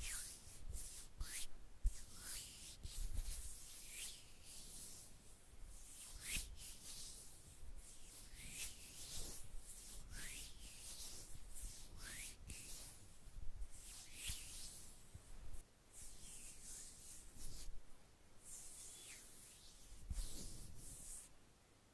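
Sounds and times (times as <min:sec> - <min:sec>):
soft rubbing strokes: 0:00.0 - 0:21.4.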